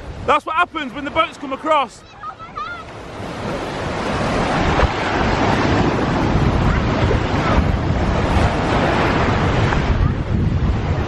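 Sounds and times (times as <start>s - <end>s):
surf breaking on shore: 0.0s - 11.0s
wind buffeting microphone: 0.9s - 11.0s.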